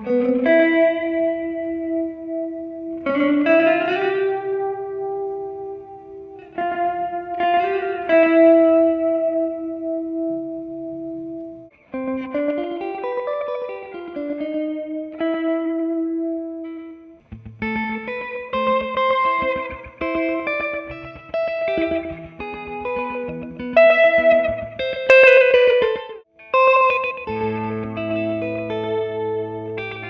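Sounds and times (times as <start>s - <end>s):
electric guitar melody with echo: 0.0s - 30.0s.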